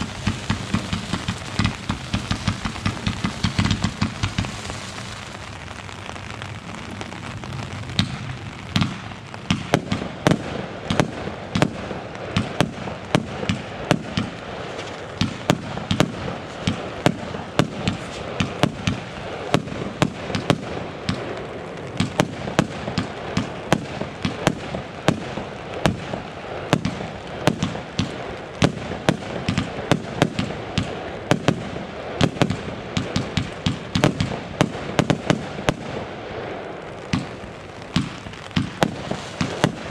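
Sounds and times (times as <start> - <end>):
fireworks bangs: 0.0 - 39.9
steady hiss: 0.0 - 39.9.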